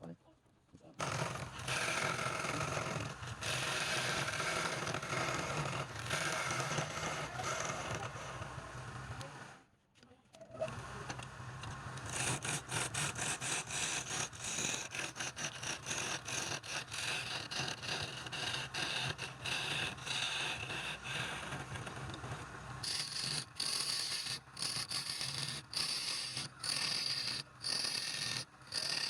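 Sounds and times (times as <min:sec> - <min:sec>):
turning tool scraping spinning wood: 0:01.0 - 0:09.3, 0:10.6 - 0:29.0
wood lathe hum: 0:01.0 - 0:09.3, 0:10.7 - 0:29.0.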